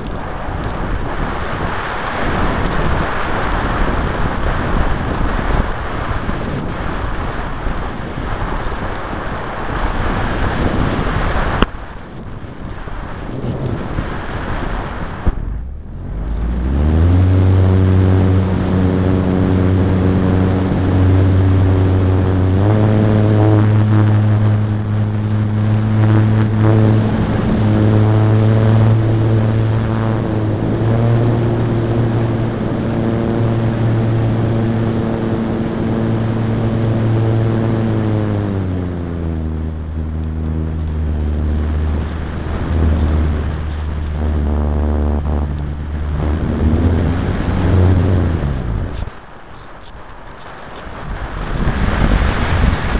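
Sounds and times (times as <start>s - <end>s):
model plane motor drone: 0.0s - 52.9s.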